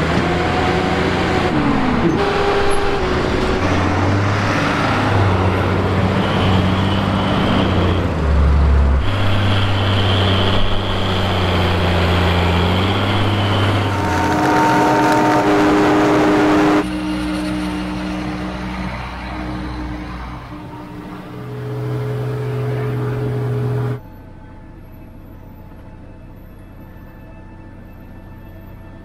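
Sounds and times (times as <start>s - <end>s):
high machinery whine: 0.0s - 29.0s
tractor engines droning: 0.0s - 29.0s.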